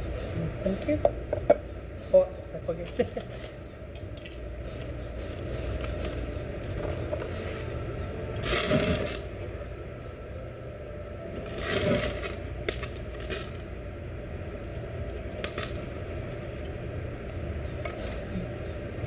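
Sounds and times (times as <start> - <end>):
grill ventilation hum: 0.0 - 19.0.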